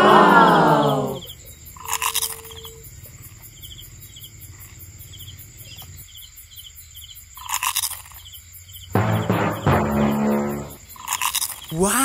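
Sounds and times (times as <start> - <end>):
crickets chirping: 0.0 - 9.0, 9.8 - 12.0.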